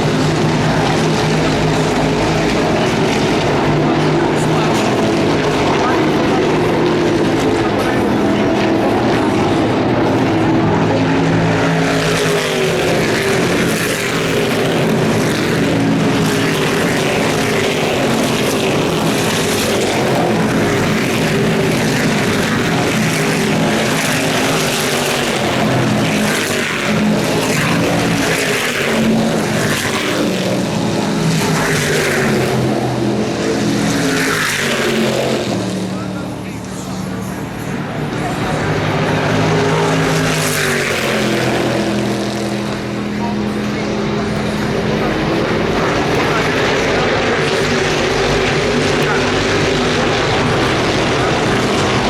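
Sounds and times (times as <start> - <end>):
race car engines at full speed: 0.0 - 52.0.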